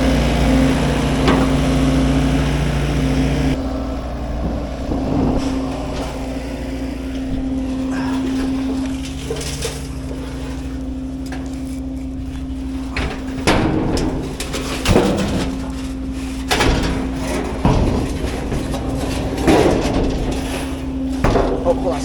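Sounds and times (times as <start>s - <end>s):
bangs and clatters of debris: 0.0s - 22.0s
machine engine running: 0.0s - 22.0s.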